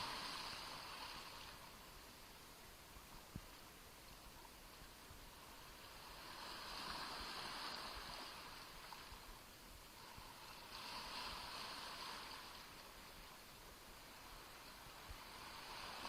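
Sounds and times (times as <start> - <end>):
small waves splashing at shoreline: 0.0 - 16.0.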